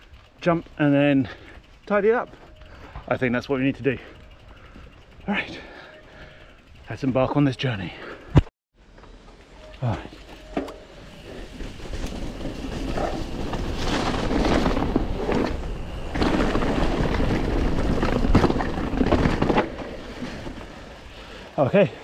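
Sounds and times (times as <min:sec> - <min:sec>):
bike tyres and rattling: 0:00.0 - 0:22.0.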